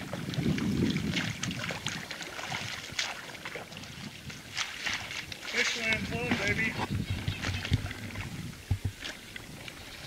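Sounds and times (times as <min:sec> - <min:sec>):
oars splashing in water: 0:00.0 - 0:10.0
wind on microphone: 0:00.0 - 0:10.0.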